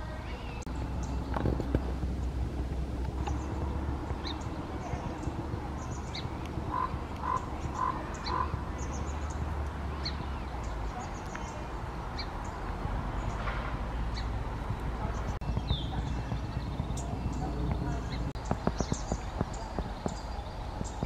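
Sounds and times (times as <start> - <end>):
lower bird notes: 0.0 - 21.0
small birds chip calls: 0.0 - 21.0.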